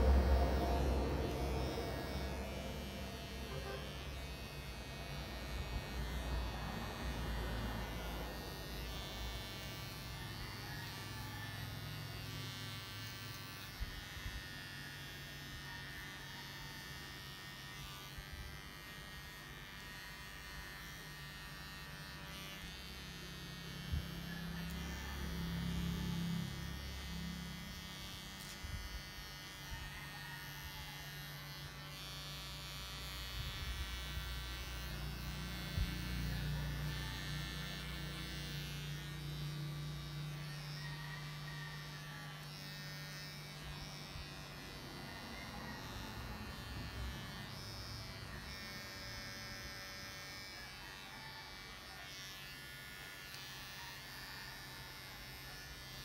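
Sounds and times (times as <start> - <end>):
electric clippers buzzing: 0.0 - 56.0.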